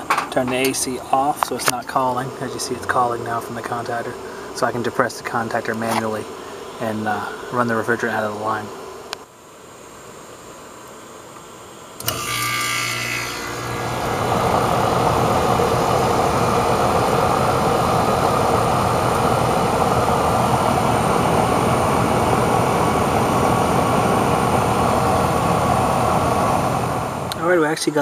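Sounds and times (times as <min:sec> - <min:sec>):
air conditioner unit running: 0:00.0 - 0:09.2, 0:11.9 - 0:28.0.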